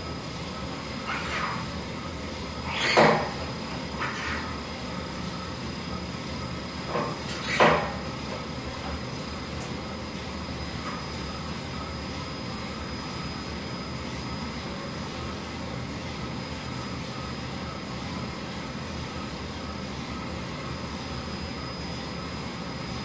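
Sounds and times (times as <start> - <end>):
coffee roaster whirring: 0.0 - 23.0.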